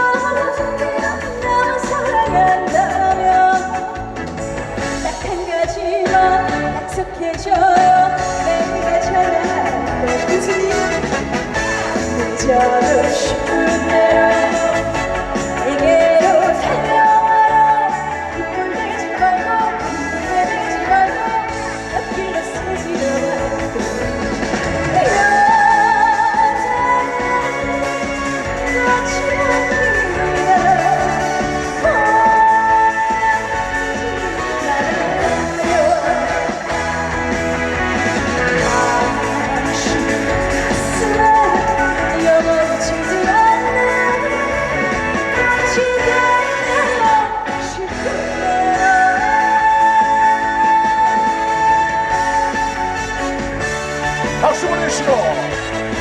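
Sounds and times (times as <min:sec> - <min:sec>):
woman singing: 0:00.0 - 0:53.4
amplified band with bass and drums: 0:00.0 - 0:56.0
loud backing music: 0:00.0 - 0:56.0.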